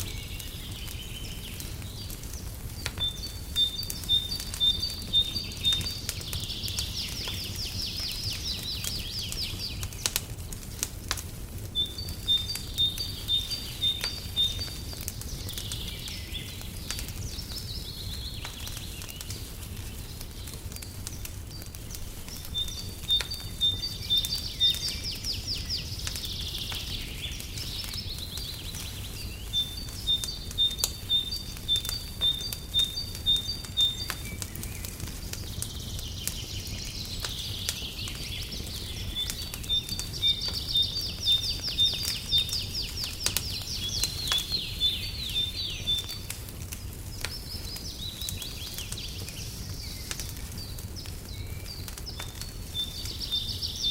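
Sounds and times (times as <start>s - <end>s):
fireplace crackling: 0.0s - 53.9s
songbirds chirping and trilling: 0.0s - 53.9s.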